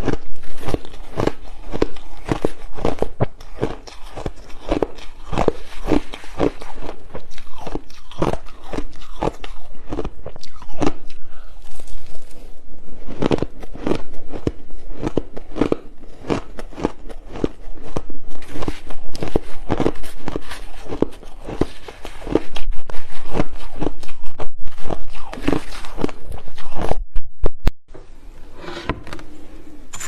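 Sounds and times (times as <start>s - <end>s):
ice being chewed: 0.0s - 27.0s.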